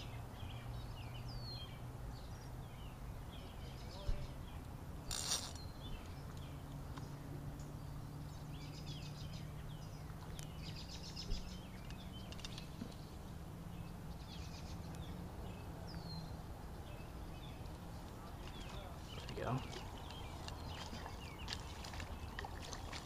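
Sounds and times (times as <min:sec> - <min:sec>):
small birds singing: 0:00.0 - 0:23.0.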